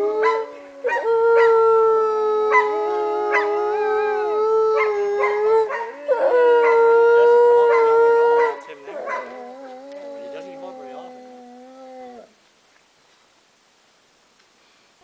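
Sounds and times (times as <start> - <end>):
wolf howling: 0.0 - 12.4.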